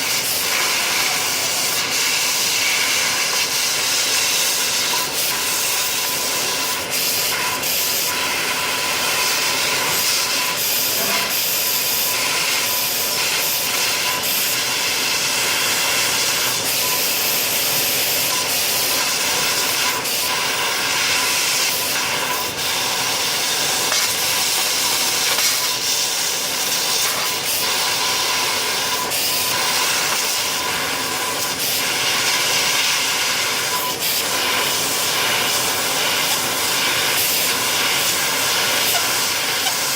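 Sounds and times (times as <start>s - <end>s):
gas jet hissing: 0.0s - 39.9s.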